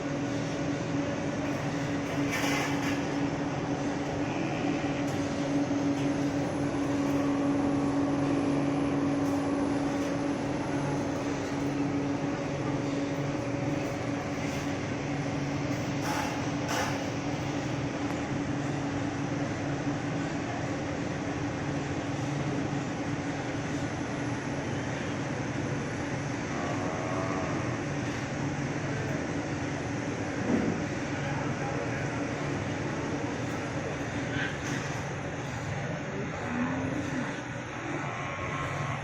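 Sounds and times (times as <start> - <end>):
machinery humming: 0.0 - 39.0.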